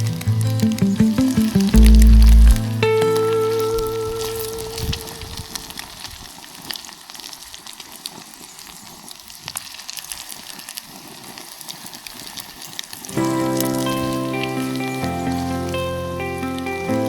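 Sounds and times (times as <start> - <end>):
frying pops and crackles: 0.0 - 17.0
food sizzling in a pan: 2.8 - 17.0.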